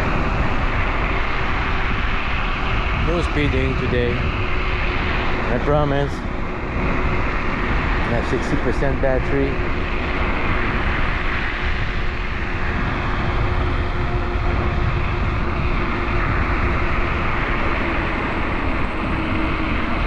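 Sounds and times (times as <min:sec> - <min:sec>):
scooter road noise: 0:00.0 - 0:20.0
thin steady whine: 0:00.0 - 0:20.0
wind rushing over microphone: 0:00.0 - 0:20.0.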